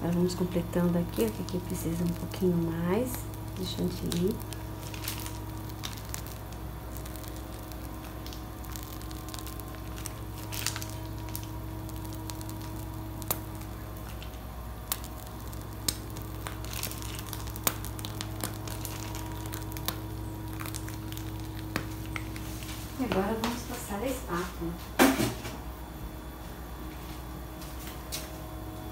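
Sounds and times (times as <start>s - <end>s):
cream squishing from piping bag: 0.0s - 23.9s
steady low hum: 0.0s - 28.9s.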